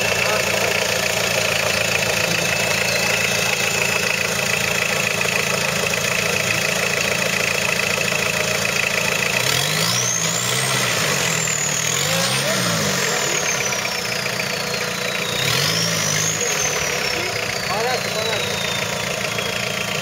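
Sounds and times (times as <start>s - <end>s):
off-road vehicle engine idling: 0.0s - 20.0s.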